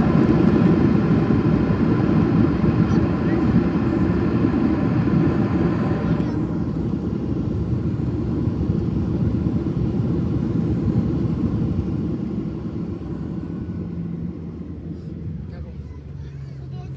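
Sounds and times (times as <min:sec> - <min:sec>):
jet engines and wheels rumbling: 0:00.0 - 0:16.9.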